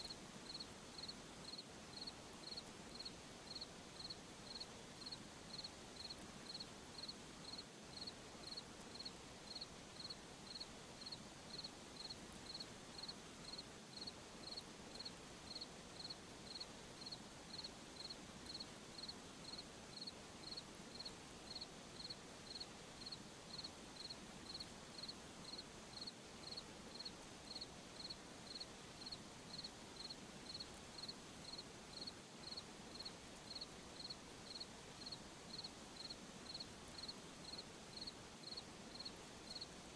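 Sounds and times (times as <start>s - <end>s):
cricket chirping: 0.0s - 39.7s
faint steady hiss: 0.0s - 39.9s.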